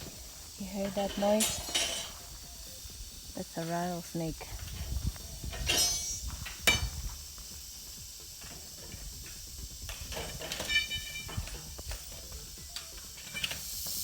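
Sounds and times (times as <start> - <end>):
rattlesnake rattling: 0.0 - 14.0.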